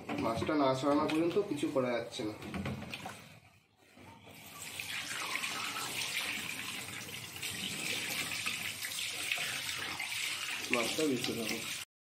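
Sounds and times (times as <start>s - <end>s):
tap water splashing in sink: 0.0s - 3.3s, 4.3s - 11.9s.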